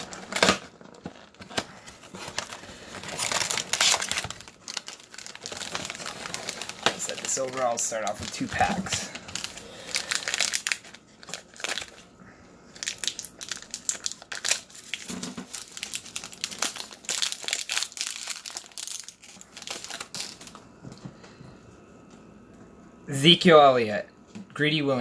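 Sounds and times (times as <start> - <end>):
plastic wrappers crinkling and tearing: 0.0 - 12.1, 12.7 - 20.7.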